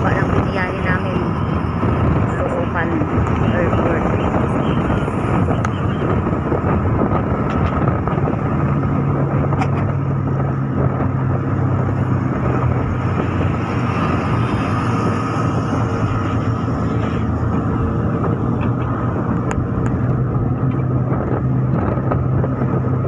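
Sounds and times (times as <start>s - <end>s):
tyre and engine rumble in car: 0.0s - 23.0s.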